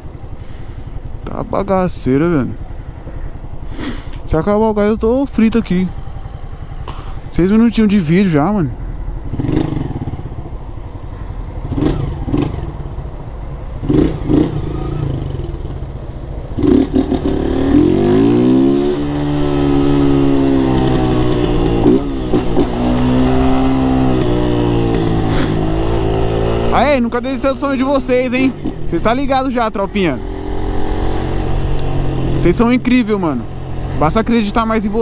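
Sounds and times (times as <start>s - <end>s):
motorcycle engine idling and revving: 0.0s - 35.0s.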